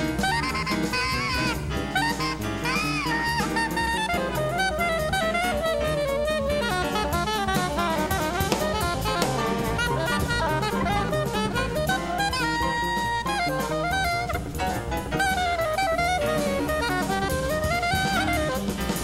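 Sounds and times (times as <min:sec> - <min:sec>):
drum kit with cymbals: 0:00.0 - 0:19.0
soprano saxophone: 0:00.0 - 0:19.0
walking upright bass: 0:00.0 - 0:19.0.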